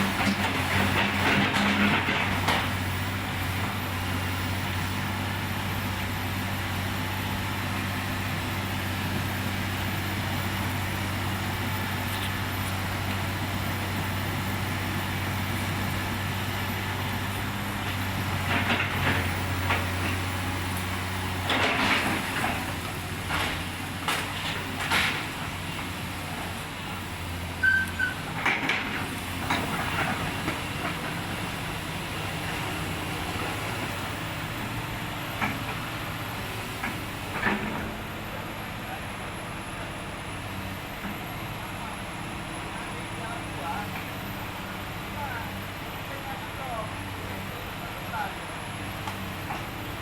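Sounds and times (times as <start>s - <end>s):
excavator diesel engine humming: 0.0s - 50.0s.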